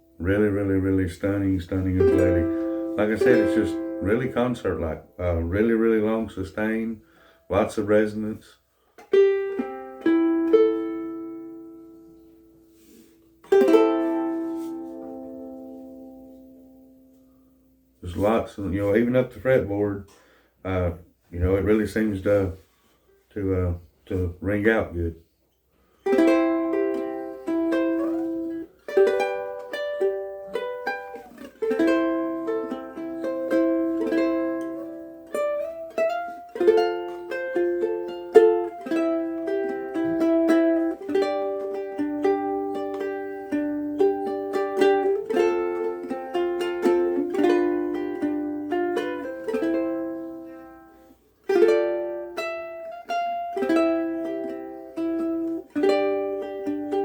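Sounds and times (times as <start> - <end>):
ukulele plucking and strumming: 0.0 - 8.4, 9.0 - 20.2, 26.0 - 57.0.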